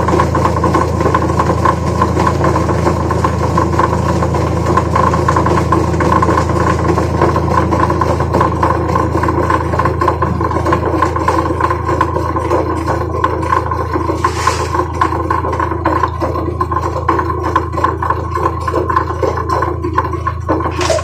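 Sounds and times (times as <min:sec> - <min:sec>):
washing machine motor humming: 0:00.0 - 0:21.0.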